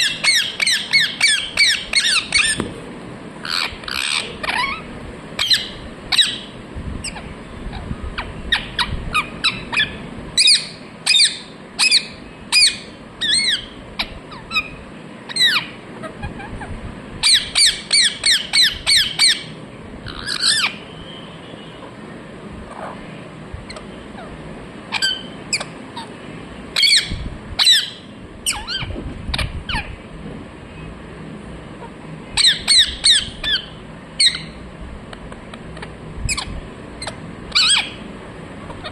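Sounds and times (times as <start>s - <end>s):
parrot squawking: 0.0s - 2.6s, 3.4s - 20.8s, 23.7s - 26.2s, 26.8s - 30.0s, 31.8s - 34.6s, 35.8s - 38.9s.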